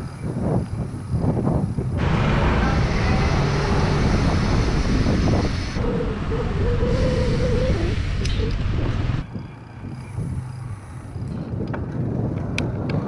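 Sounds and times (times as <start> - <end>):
bicycle tyre and road noise: 0.0 - 13.0
wind on microphone: 0.0 - 13.0.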